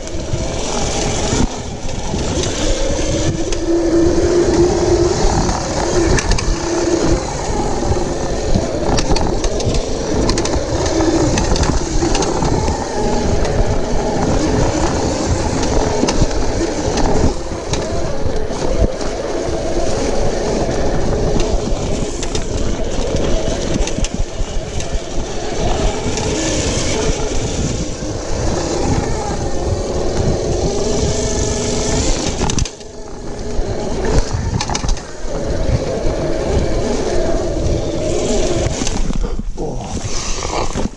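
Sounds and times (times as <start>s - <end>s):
electric motor whine: 0.0s - 39.3s
bike rattling on dirt: 0.0s - 40.9s
wind rumble on microphone: 0.0s - 40.9s.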